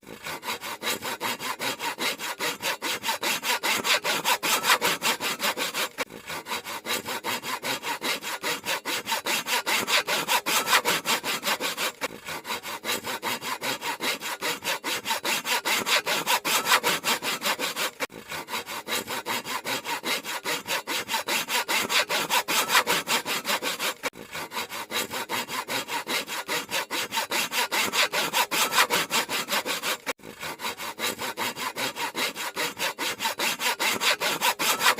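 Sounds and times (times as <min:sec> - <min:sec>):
handsaw cutting wood: 0:00.0 - 0:34.9.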